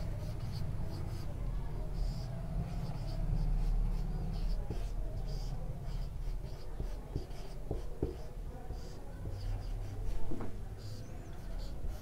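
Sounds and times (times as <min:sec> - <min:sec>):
marker squeaking on whiteboard: 0:02.0 - 0:12.0.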